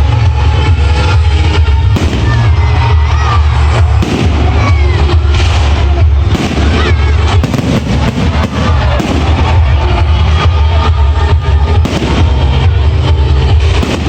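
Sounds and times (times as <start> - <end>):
crowd voices: 0.0 - 14.0
loud music with heavy bass: 0.0 - 14.0
fireworks bursting: 0.4 - 14.0.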